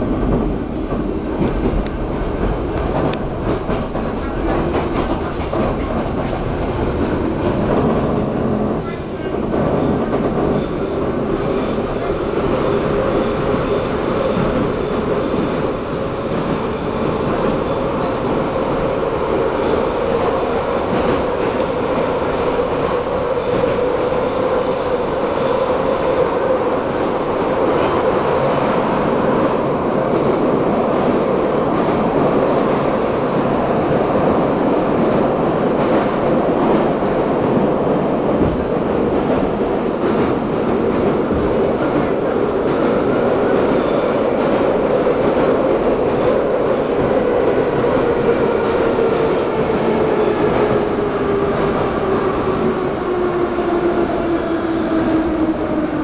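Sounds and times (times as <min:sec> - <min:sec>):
metro car running noise: 0:00.0 - 0:56.0.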